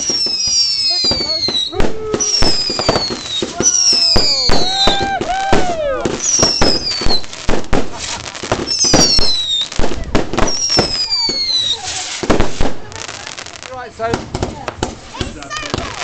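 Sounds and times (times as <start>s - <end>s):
fireworks bangs and crackling: 0.0s - 16.0s
whistling fireworks: 0.0s - 16.0s.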